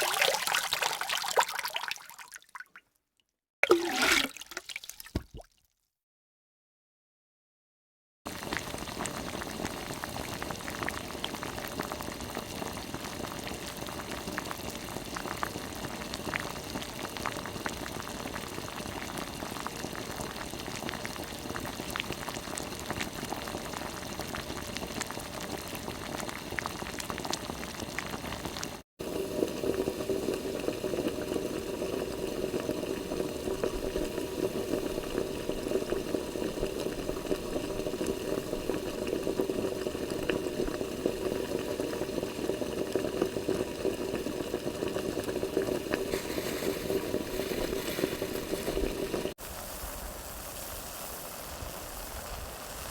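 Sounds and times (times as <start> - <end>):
water boiling and bubbling: 0.0 - 2.8, 3.6 - 5.5, 8.3 - 52.9.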